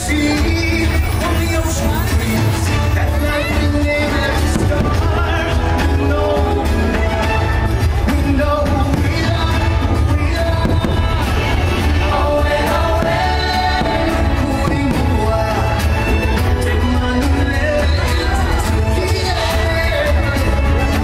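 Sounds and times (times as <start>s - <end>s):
music with singing: 0.0s - 21.0s.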